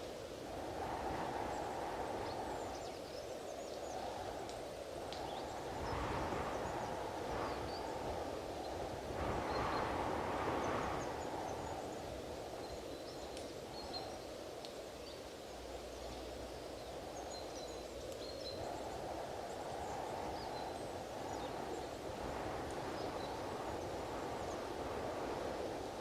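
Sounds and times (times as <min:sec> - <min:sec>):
strong wind gusting: 0:00.0 - 0:13.8, 0:18.5 - 0:26.0.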